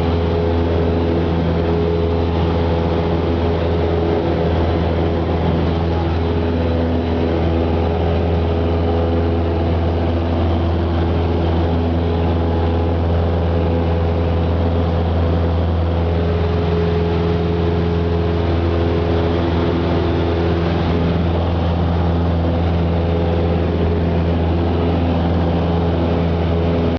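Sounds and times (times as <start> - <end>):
light aircraft engine and propeller: 0.0 - 26.9.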